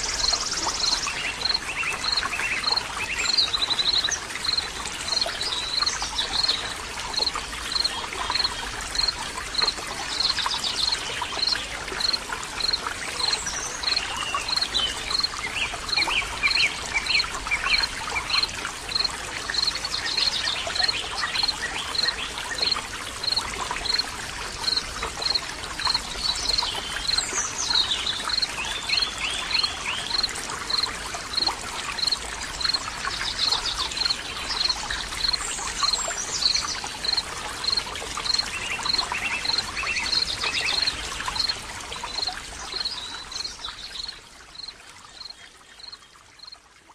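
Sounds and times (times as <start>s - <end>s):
water trickling: 0.0s - 46.9s.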